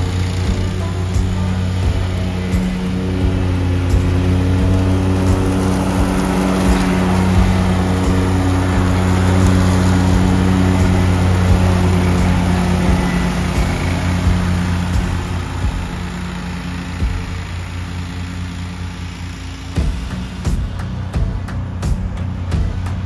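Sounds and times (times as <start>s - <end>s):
mower engine droning: 0.0s - 23.0s.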